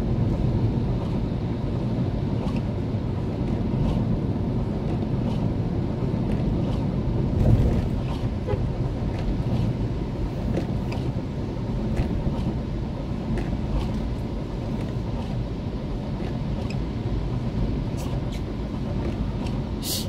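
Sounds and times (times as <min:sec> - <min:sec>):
car tyres rumbling on wet road: 0:00.0 - 0:19.8.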